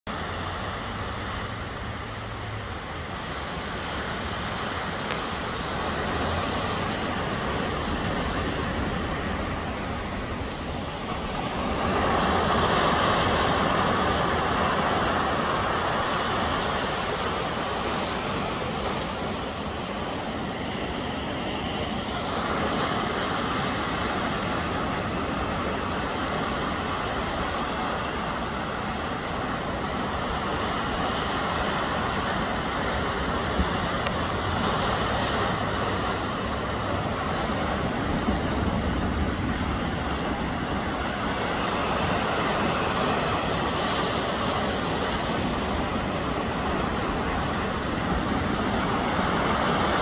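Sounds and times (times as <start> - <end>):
surf breaking around rocks: 0.1 - 50.0.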